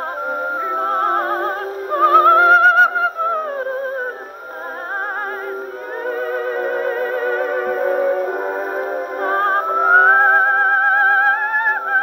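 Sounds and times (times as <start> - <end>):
soprano singing with orchestra: 0.0 - 12.0.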